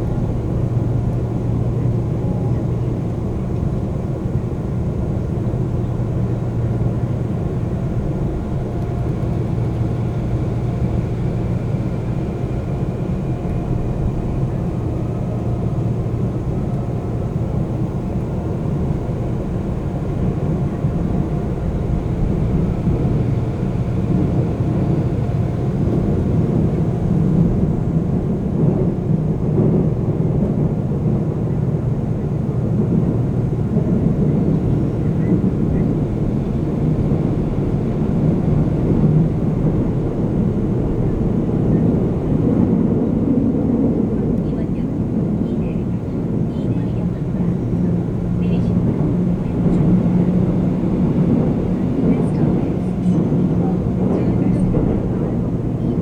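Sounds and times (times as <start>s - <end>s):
subway train wheels rumbling: 0.0s - 56.0s.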